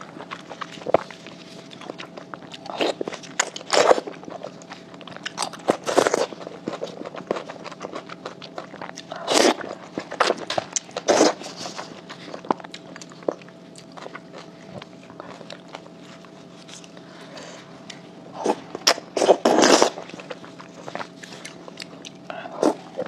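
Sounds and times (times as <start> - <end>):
mouth clicks and chewing: 0.2 - 17.0, 18.8 - 23.0.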